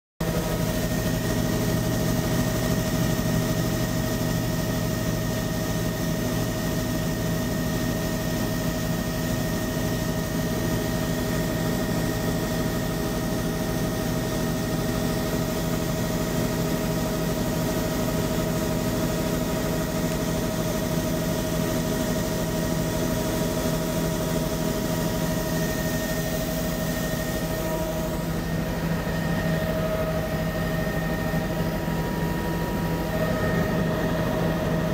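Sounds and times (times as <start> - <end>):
aircraft engine drone: 0.2 - 34.9.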